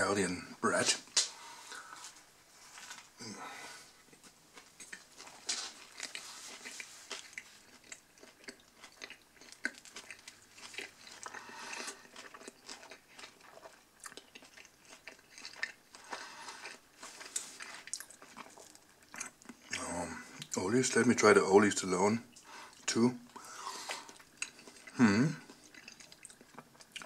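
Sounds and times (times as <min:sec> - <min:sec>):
person chewing sandwich crunching: 0:01.2 - 0:20.6, 0:22.3 - 0:27.0.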